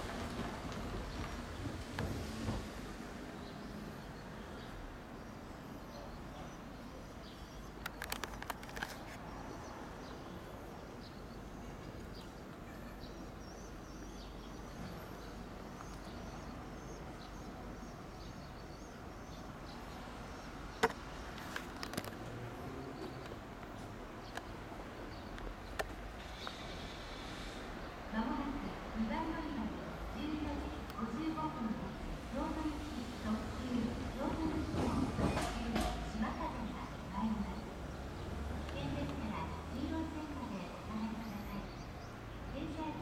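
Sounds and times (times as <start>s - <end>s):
quiet outdoor background noise: 0.0s - 43.0s.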